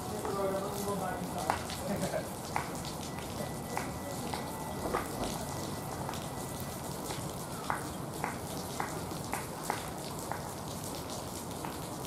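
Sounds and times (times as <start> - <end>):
heavy rain falling: 0.0 - 12.0
sharp drips on a surface: 0.0 - 12.0.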